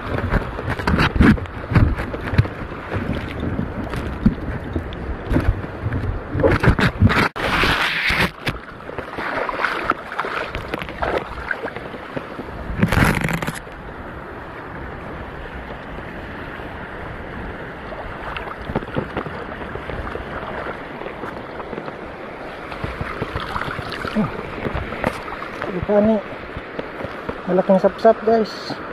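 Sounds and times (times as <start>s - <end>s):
sea water splashing: 0.0s - 28.9s.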